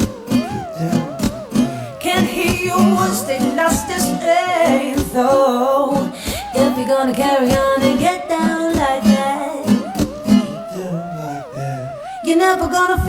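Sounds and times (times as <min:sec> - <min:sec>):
pop song with guitar: 0:00.0 - 0:13.0.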